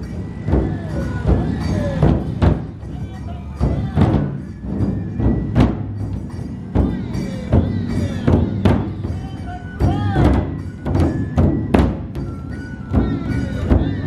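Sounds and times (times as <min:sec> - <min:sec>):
large drums beaten with sticks: 0:00.0 - 0:14.0.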